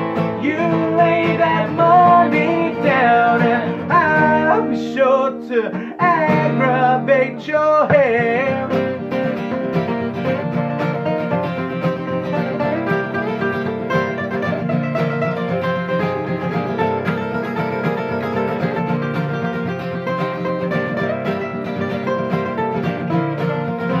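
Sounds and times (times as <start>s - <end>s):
plucked string instruments: 0.0s - 24.0s.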